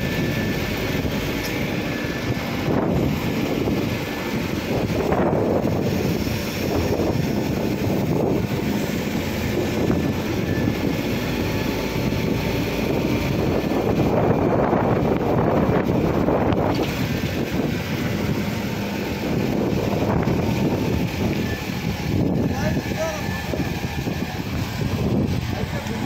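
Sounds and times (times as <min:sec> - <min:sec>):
crane hydraulics running: 0:00.0 - 0:26.0
truck engine drone: 0:00.0 - 0:26.0.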